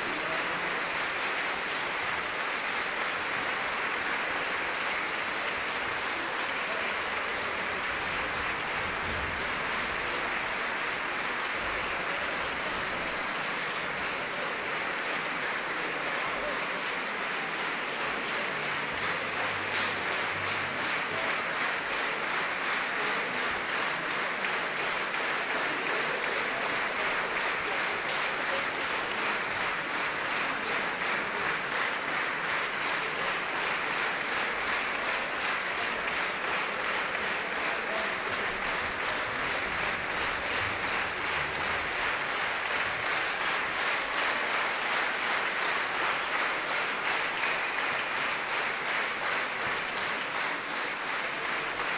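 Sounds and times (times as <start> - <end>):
audience applause: 0.0 - 51.9.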